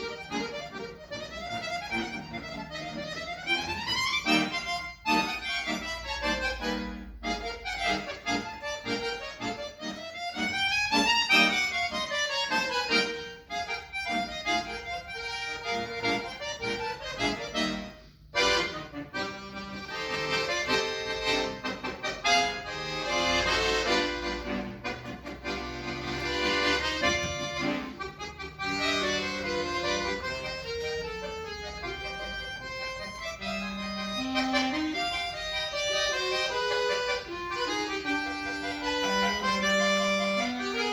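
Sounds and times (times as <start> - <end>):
solo accordion playing: 0.0 - 40.9.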